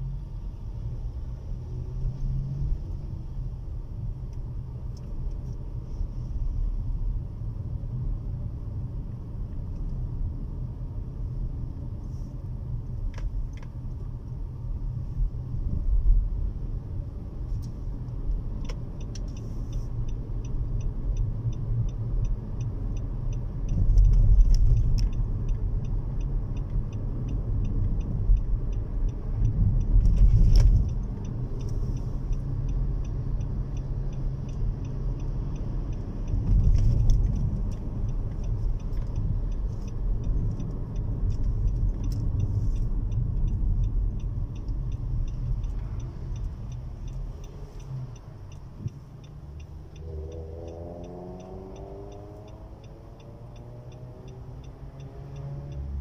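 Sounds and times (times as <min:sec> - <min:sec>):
tyres and engine rumble: 0:00.0 - 0:56.0.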